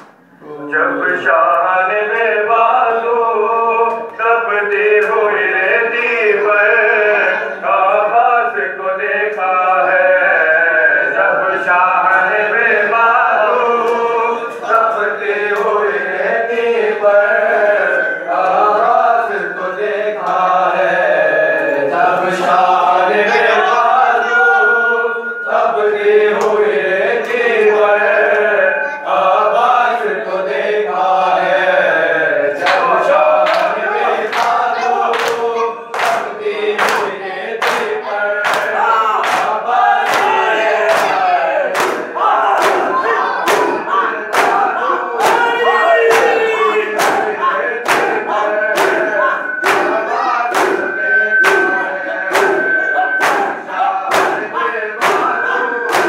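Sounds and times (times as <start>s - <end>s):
men chanting together: 0.6s - 56.0s.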